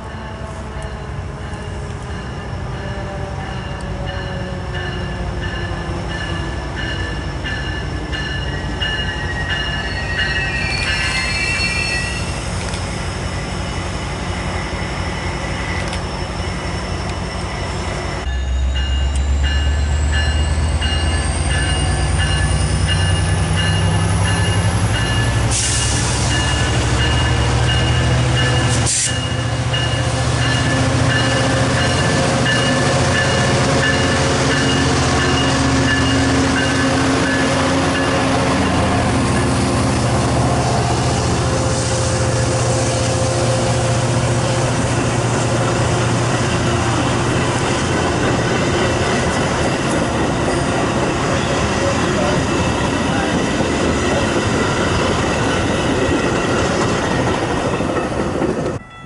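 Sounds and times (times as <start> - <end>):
diesel locomotive engine rumble: 0.0 - 59.0
train cars rolling on rails: 0.0 - 59.0.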